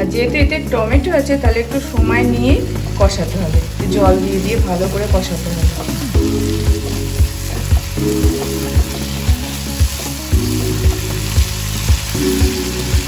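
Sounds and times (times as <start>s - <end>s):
background music with a beat: 0.0s - 13.0s
paste sizzling in a pan: 1.2s - 13.0s.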